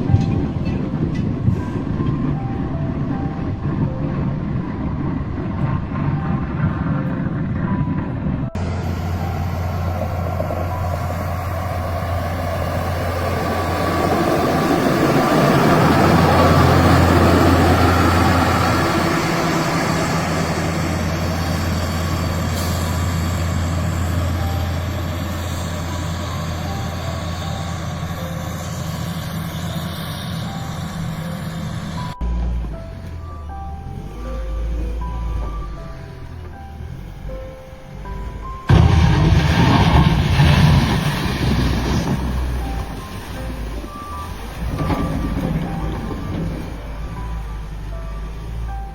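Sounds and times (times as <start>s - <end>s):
rushing noise: 0.0s - 48.9s
snow-clearing machine engine: 6.8s - 48.9s.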